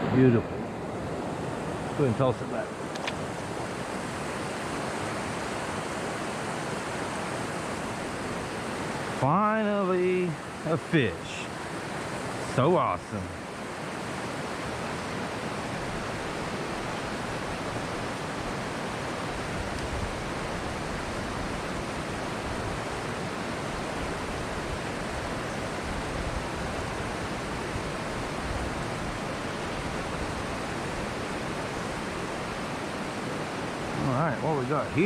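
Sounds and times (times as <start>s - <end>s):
creek water flowing: 0.0s - 35.0s.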